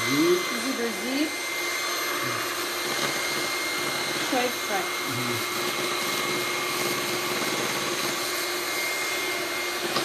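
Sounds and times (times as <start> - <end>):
electric hand mixer whisking: 0.0 - 10.0.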